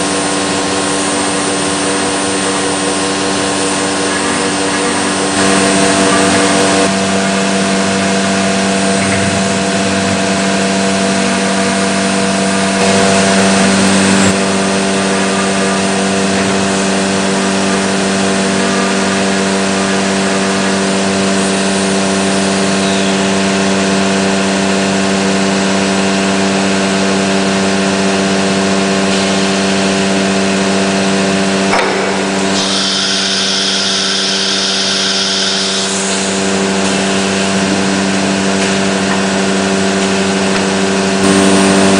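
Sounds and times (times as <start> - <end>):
high whine: 0.0 - 24.6, 27.3 - 41.9
cnc router cutting: 0.0 - 41.9.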